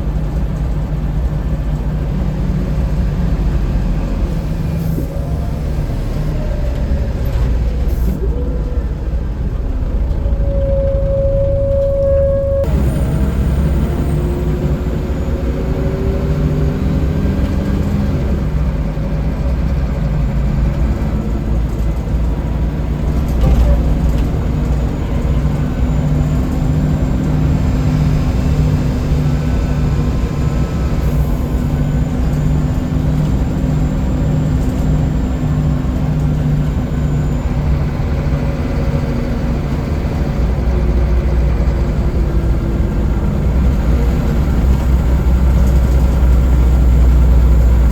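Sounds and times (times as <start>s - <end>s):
bus diesel engine running: 0.0s - 47.9s
road noise: 0.0s - 47.9s.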